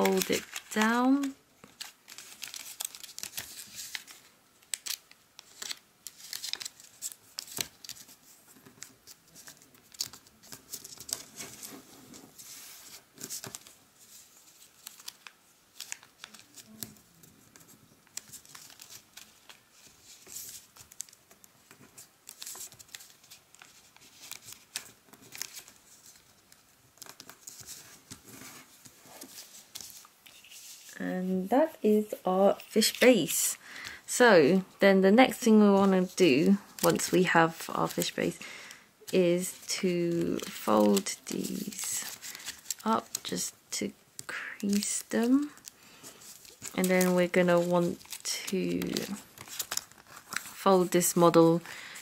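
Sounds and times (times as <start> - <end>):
paper folds scraping: 0.0 - 31.0, 35.6 - 43.5, 44.2 - 52.0
paper rustling and crinkling: 0.0 - 31.0, 35.3 - 43.6, 44.2 - 52.0.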